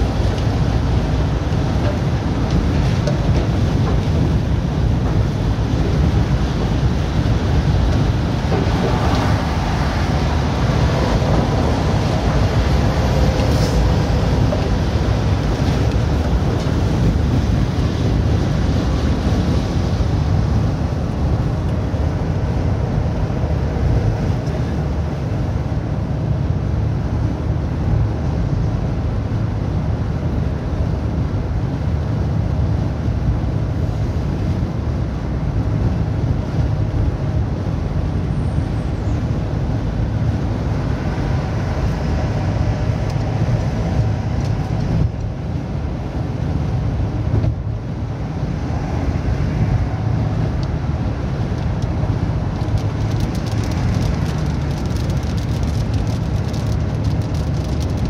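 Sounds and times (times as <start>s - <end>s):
vehicle engine and tyre noise: 0.0s - 58.0s.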